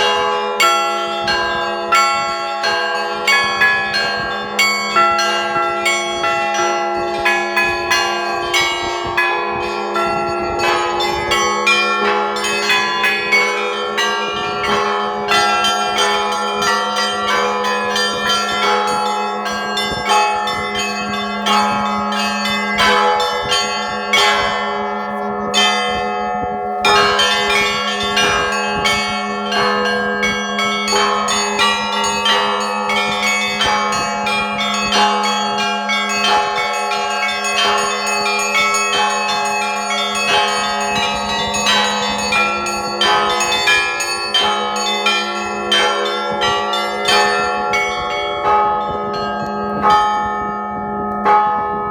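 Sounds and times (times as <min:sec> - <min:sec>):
large bell humming: 0:00.0 - 0:51.9
small church bells striking: 0:00.0 - 0:51.9.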